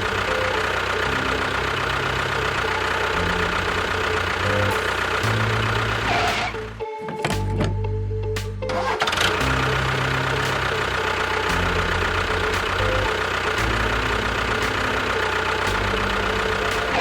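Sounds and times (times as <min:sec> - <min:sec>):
engine idling: 0:00.0 - 0:07.8, 0:08.5 - 0:17.0.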